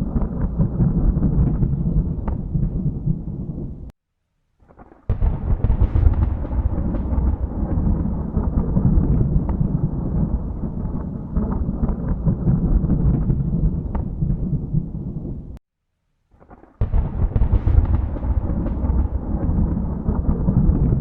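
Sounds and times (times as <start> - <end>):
thunder cracking: 0.0 - 3.9, 4.8 - 15.6, 16.6 - 21.0
thunder rumbling: 0.0 - 3.9, 5.1 - 15.6, 16.6 - 21.0.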